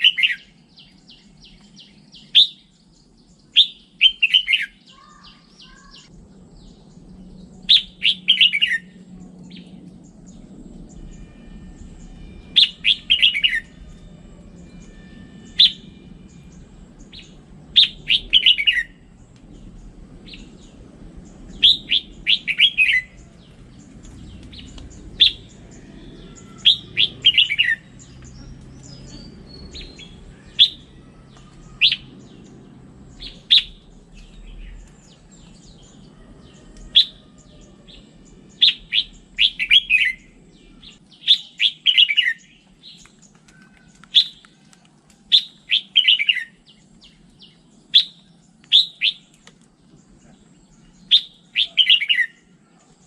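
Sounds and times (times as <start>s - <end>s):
bird singing whistled notes: 0.0s - 43.2s, 44.1s - 44.5s, 45.3s - 49.4s, 50.1s - 52.8s.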